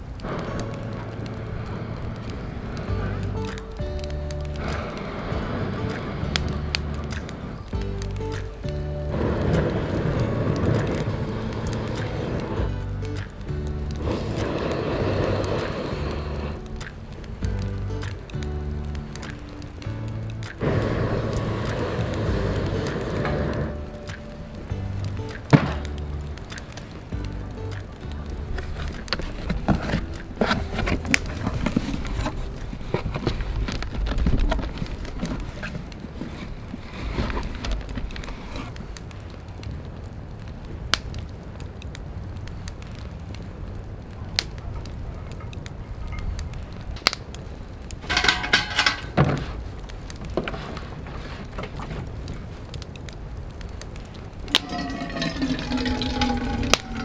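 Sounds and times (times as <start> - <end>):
sharp fire pops: 0.0 - 57.0
wood fire crackling: 0.0 - 57.0.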